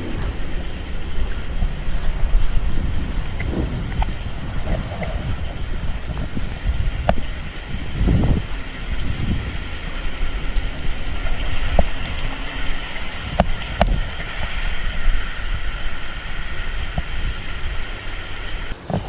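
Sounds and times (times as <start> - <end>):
gusty wind on microphone: 0.0 - 19.0
heavy rain falling: 0.0 - 19.0.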